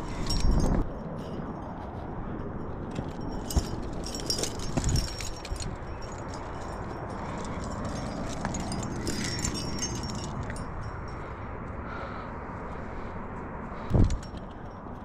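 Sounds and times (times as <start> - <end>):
metal climbing gear clinking: 0.0 - 11.8, 13.8 - 15.0
steady background rush: 0.0 - 15.0.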